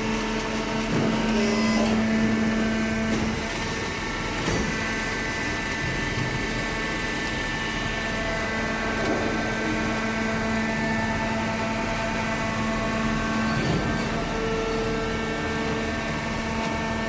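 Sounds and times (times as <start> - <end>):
baler machine drone: 0.0 - 17.0.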